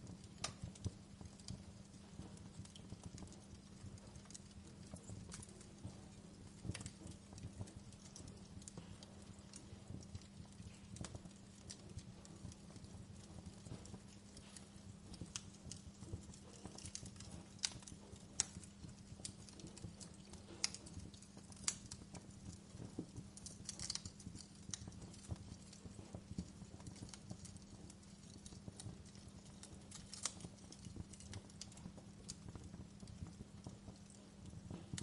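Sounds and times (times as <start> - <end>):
fire pops: 0.0 - 35.0
steady low hum: 0.0 - 35.0
wood fire crackling: 0.0 - 35.0.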